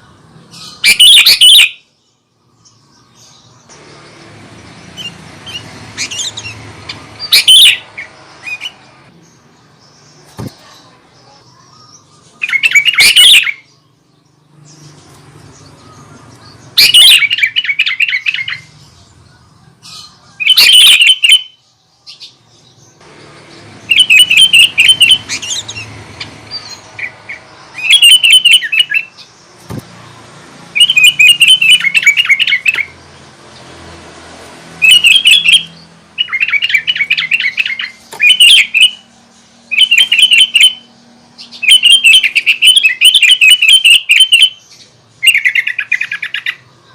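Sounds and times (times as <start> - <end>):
bird singing chattering phrases: 0.0 - 34.0, 34.6 - 46.9.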